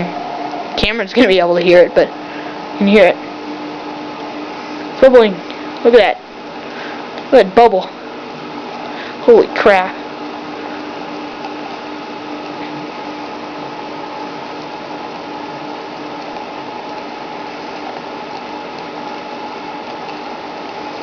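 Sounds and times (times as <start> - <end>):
faint steady hum: 0.0 - 21.0
water boiling and bubbling: 0.0 - 21.0.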